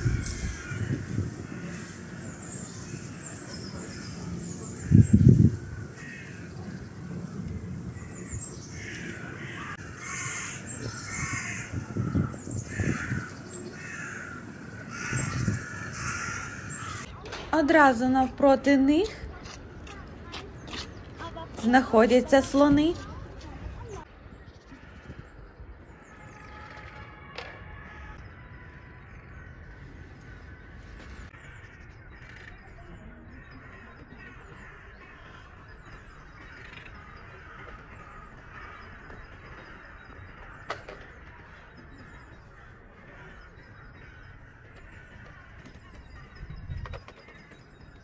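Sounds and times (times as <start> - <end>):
bird calls: 0.0 - 17.2, 18.9 - 48.0.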